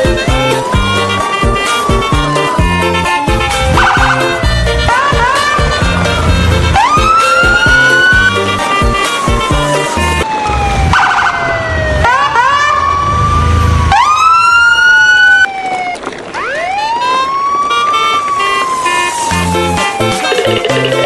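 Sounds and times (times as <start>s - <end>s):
wailing siren: 0.0s - 21.0s.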